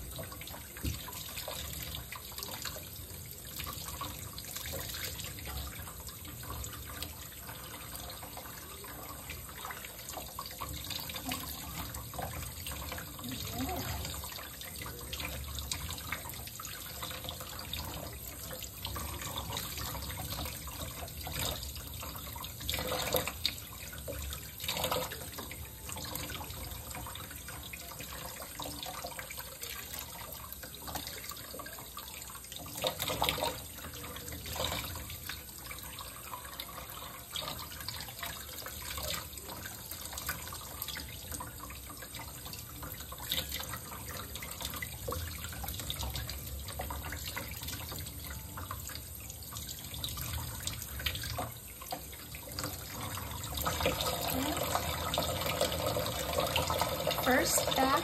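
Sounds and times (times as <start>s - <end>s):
faucet water splashing in sink: 0.0s - 58.0s.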